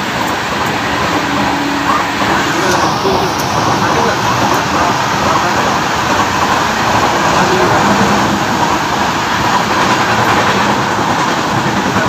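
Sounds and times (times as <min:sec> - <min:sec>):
train wheels rolling on rails: 0:00.0 - 0:12.0.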